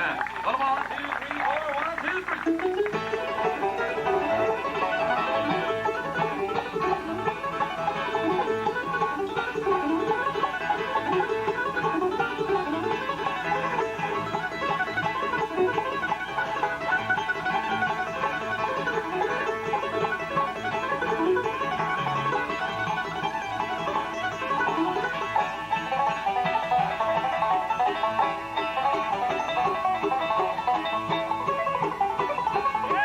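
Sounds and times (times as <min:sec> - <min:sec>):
bluegrass band playing: 0:00.0 - 0:33.0.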